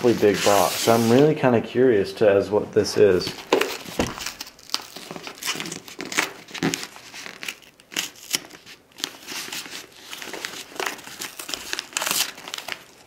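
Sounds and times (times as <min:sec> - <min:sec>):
paper wrapper tearing: 0:00.0 - 0:01.2, 0:03.5 - 0:13.0.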